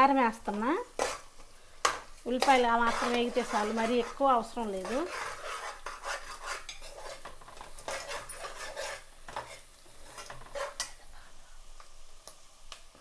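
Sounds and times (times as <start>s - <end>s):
spoon scraping in a cooking pan: 0.5s - 12.6s.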